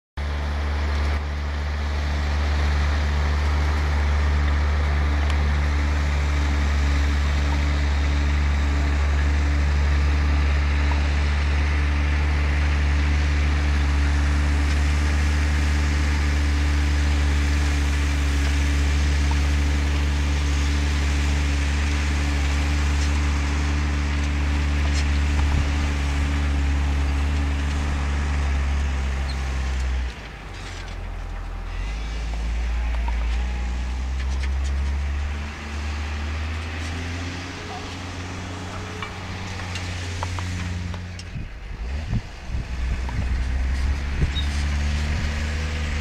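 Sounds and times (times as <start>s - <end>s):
tractor diesel engine running: 0.2s - 46.0s.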